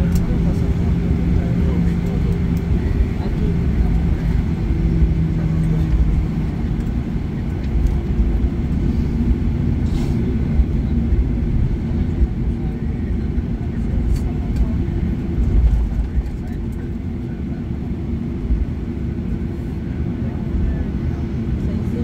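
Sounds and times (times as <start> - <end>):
jet engines humming at idle: 0.0 - 22.0
low rumble of aircraft rolling: 0.0 - 22.0.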